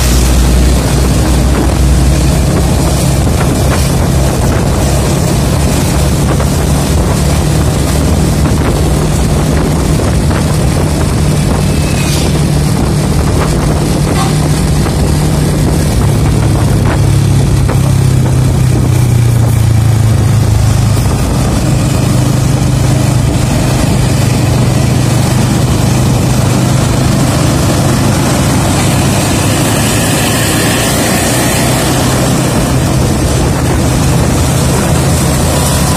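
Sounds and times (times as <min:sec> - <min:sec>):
tyre and wind noise: 0:00.0 - 0:35.9
vehicle engine droning: 0:00.0 - 0:35.9.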